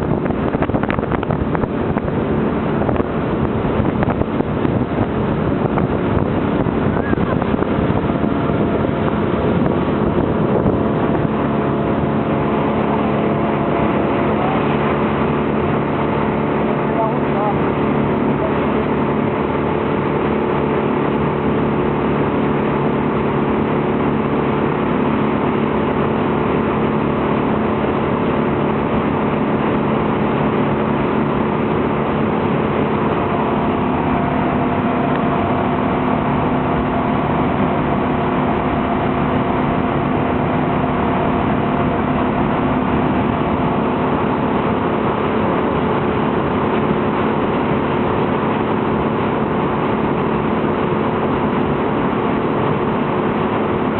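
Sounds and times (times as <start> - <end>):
motorboat engine running: 0.0 - 53.9.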